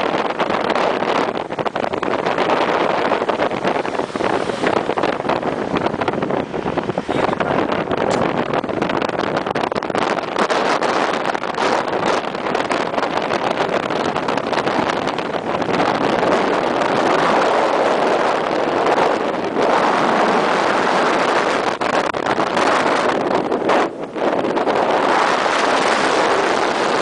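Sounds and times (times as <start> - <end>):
car road noise: 0.0 - 27.0
turbulent river roaring: 0.0 - 27.0
wind: 0.0 - 27.0.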